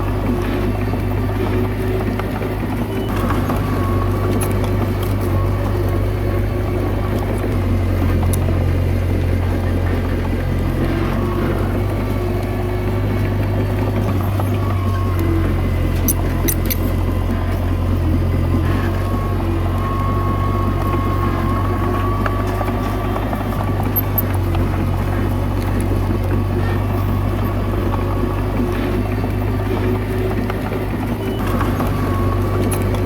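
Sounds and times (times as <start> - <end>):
bulldozer diesel engine droning: 0.0 - 33.0
faint squeaks and clicks: 0.0 - 33.0.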